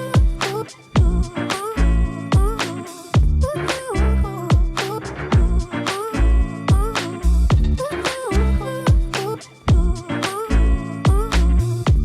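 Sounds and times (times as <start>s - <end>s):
upbeat funk music: 0.0s - 12.0s.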